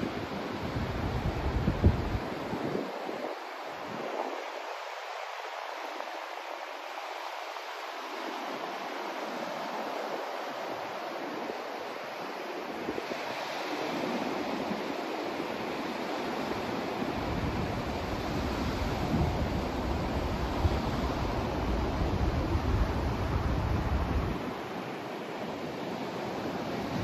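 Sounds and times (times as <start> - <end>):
rushing surf-like noise: 0.0 - 27.0.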